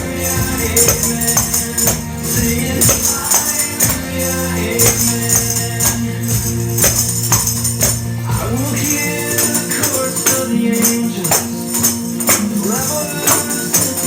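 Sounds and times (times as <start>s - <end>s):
rock worship song: 0.0s - 14.0s
tambourines jingling: 0.0s - 14.0s.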